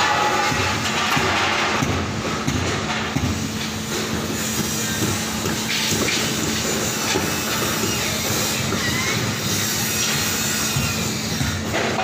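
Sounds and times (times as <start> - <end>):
heavy machinery engine drone: 0.0 - 12.0.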